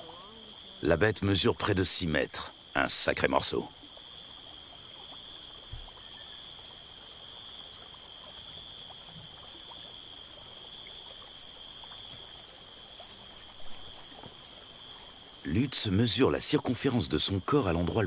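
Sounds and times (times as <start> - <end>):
high insect chirps: 0.0 - 18.0
insects trilling: 0.0 - 18.0.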